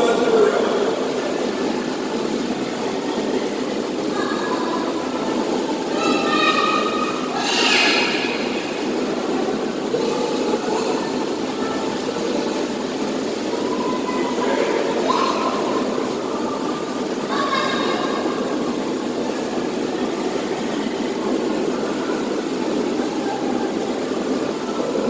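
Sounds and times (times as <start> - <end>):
echoing indoor pool noise: 0.0 - 25.0.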